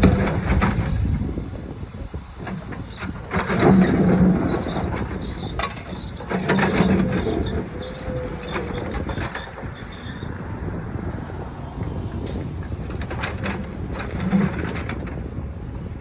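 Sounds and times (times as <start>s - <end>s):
diesel engine rising under load: 0.0s - 16.0s.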